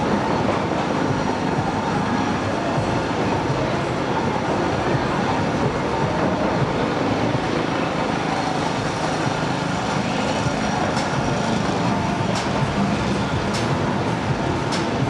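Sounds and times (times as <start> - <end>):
fairground rides rumbling: 0.0 - 15.0.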